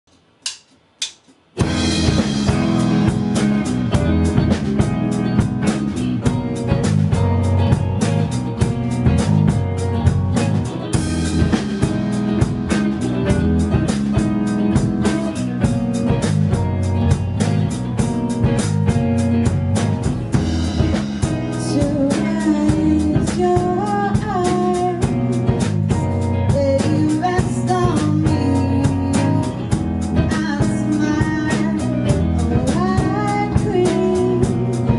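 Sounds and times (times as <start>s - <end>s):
lead melody with bending notes: 1.6s - 34.9s
live band playing: 1.6s - 34.9s.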